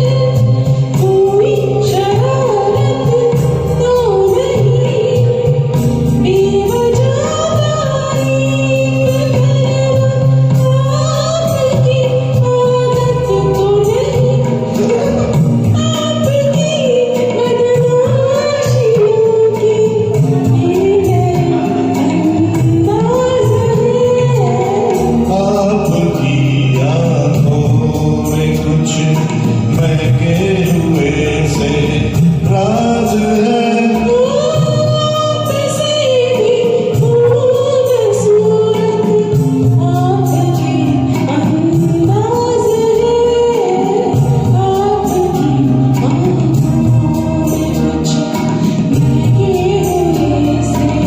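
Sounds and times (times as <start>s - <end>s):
karaoke backing track: 0.0s - 51.0s
person singing: 7.3s - 51.0s.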